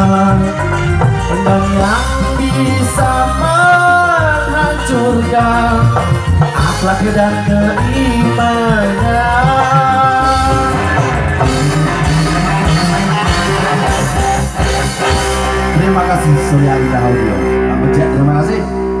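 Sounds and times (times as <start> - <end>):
bass guitar: 0.0 - 19.0
drums: 0.0 - 19.0
electric guitar lead: 0.0 - 19.0.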